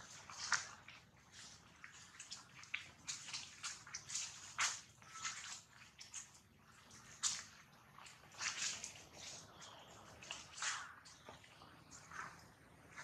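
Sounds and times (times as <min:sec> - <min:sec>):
leaves crackling underfoot: 0:00.0 - 0:13.0.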